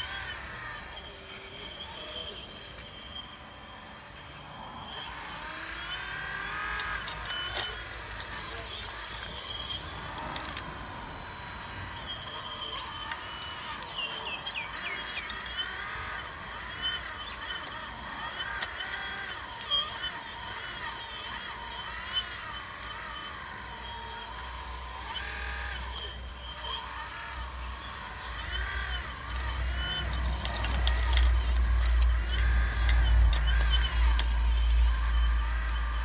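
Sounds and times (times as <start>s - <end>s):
hydraulic pump whining: 0.0s - 36.0s.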